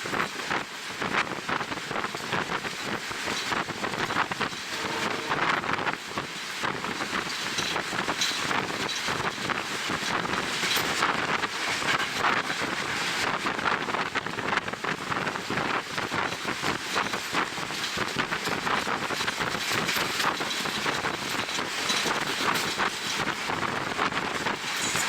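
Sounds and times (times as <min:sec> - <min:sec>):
train running noise: 0:00.0 - 0:25.0
wind buffeting microphone: 0:00.1 - 0:25.0.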